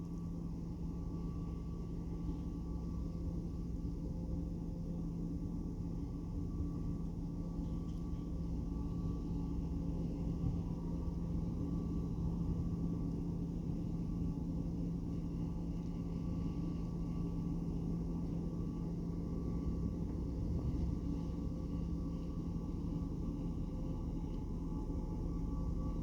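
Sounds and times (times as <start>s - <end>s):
constant low hum: 0.0s - 26.0s.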